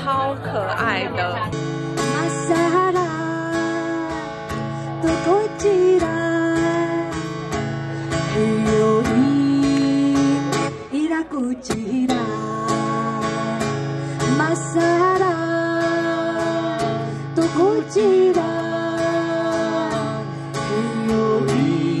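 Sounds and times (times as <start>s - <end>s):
strummed acoustic guitar: 0.0s - 22.0s
person singing: 2.0s - 7.4s, 8.1s - 22.0s.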